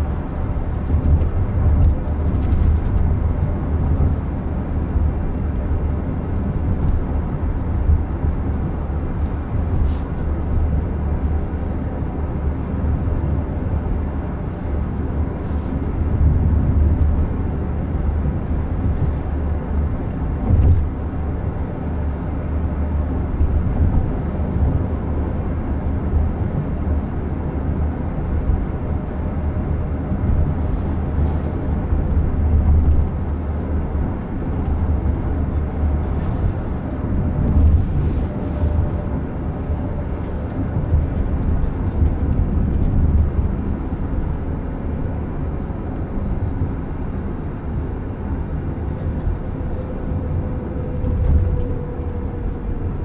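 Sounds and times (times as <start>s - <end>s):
road and tyre rumble inside car: 0.0s - 53.0s.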